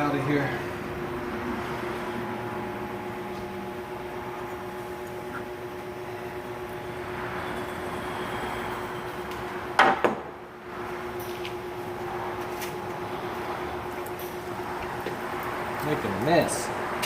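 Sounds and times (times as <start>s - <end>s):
shop background hum: 0.0s - 17.0s.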